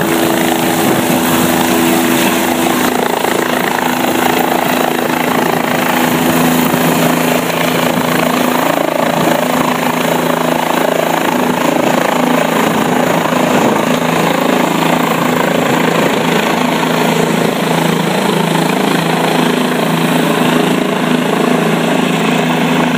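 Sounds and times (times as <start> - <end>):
helicopter rotor and turbine: 0.0 - 22.9.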